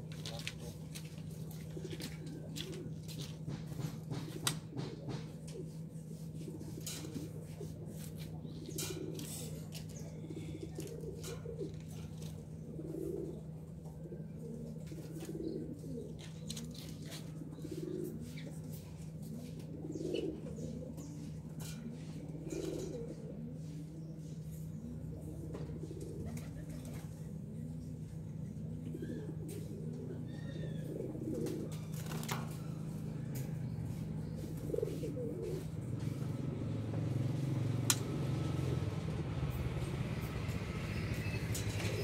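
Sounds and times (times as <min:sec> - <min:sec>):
dove cooing: 0:00.0 - 0:42.0.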